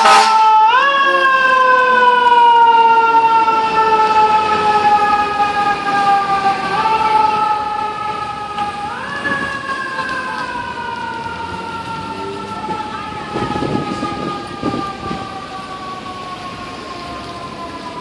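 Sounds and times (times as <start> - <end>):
fire engine siren: 0.0 - 18.0.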